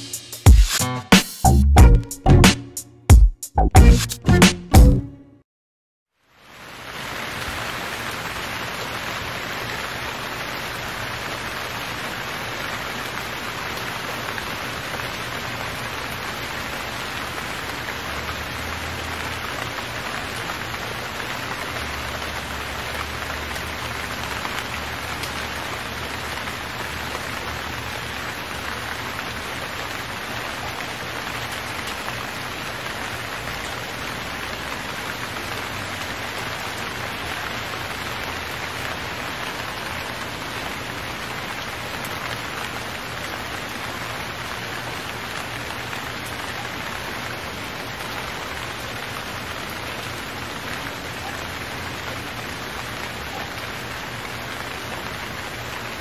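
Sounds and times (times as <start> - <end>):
steady rain falling: 6.2 - 56.0.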